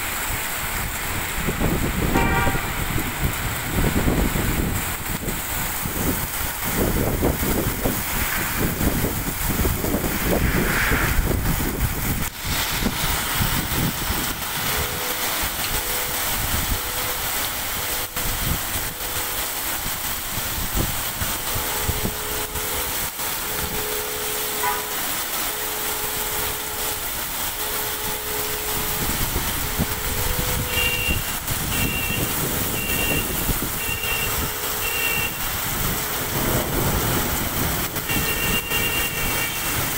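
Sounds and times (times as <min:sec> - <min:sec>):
heavy rain pouring on street: 0:00.0 - 0:39.9.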